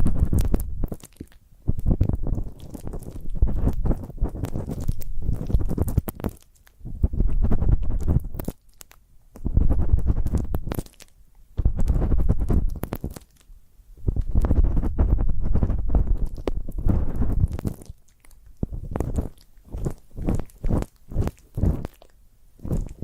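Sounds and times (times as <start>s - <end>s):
ear pick scraping microphone: 0.0s - 1.0s, 1.7s - 8.5s, 9.4s - 10.8s, 11.6s - 13.2s, 14.0s - 17.9s, 18.6s - 22.0s, 22.6s - 23.0s.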